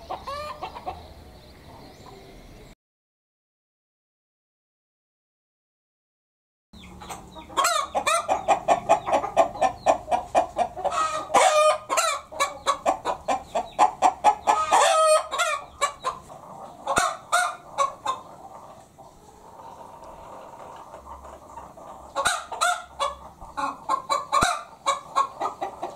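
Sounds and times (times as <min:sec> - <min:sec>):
hen cackling: 0:00.0 - 0:02.2, 0:06.8 - 0:25.9.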